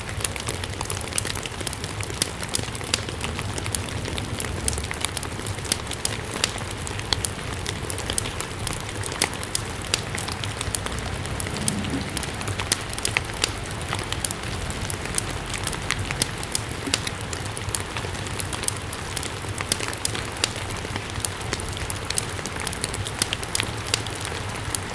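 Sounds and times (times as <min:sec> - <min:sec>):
steady rain: 0:00.0 - 0:24.9
wood fire crackling: 0:00.0 - 0:24.9.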